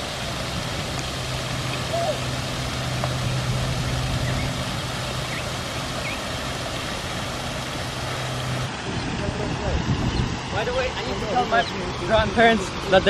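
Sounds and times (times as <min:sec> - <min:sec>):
low even hum: 0:00.0 - 0:12.8.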